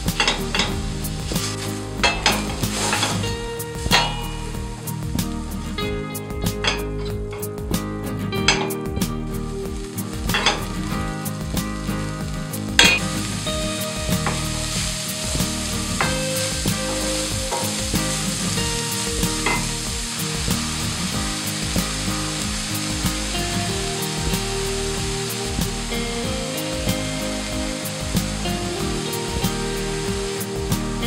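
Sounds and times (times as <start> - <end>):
meat and onion sizzling: 0.0 - 31.0.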